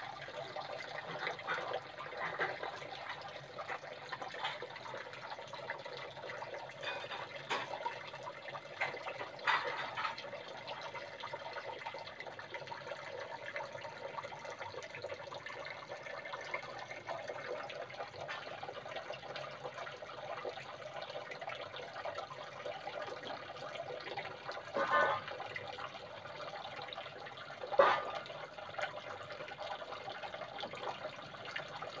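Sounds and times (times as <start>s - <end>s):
water trickling into pond: 0.0s - 32.0s.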